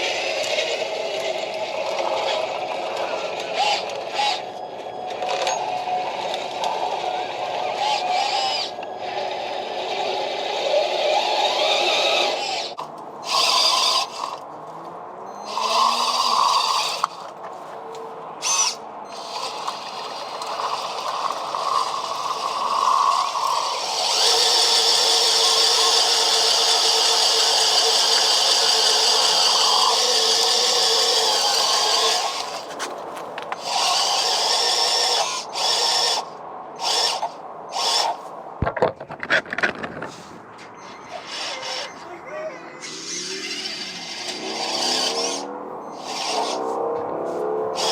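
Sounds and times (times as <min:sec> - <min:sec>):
electric motor whirring: 0:00.0 - 0:14.4, 0:15.4 - 0:17.2, 0:18.4 - 0:32.7, 0:33.6 - 0:38.2, 0:42.8 - 0:47.9
grinding and scraping: 0:00.0 - 0:47.9.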